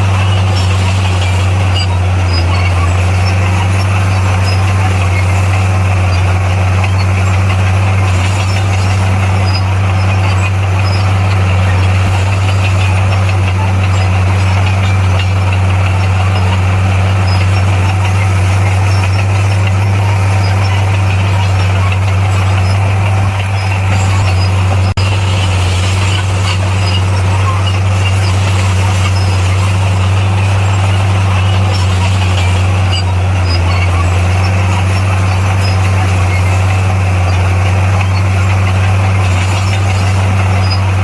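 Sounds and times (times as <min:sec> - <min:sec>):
diesel engine humming: 0:00.0 - 0:41.0.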